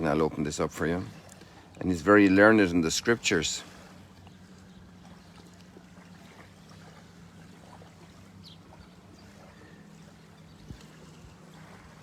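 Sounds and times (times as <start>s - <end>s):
soft water sounds: 0.0s - 12.0s.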